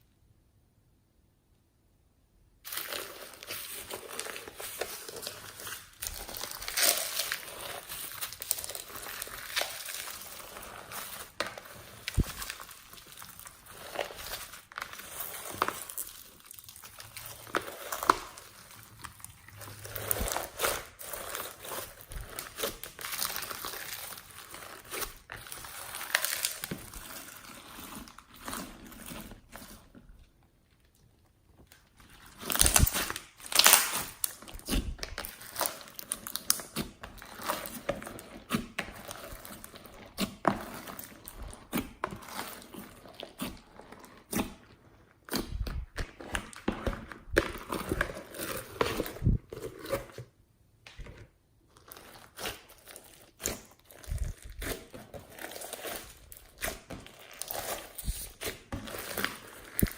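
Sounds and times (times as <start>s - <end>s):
slime squishing and crackling: 2.6s - 59.9s.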